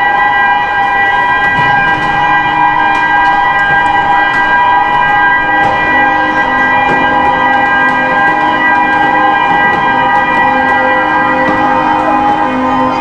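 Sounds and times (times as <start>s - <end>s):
low horn tones: 0.0s - 13.0s.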